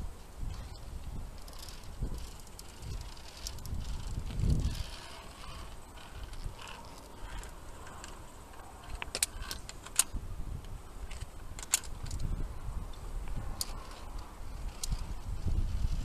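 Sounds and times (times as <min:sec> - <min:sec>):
carabiners clinking: 0:00.5 - 0:10.2, 0:11.0 - 0:15.2.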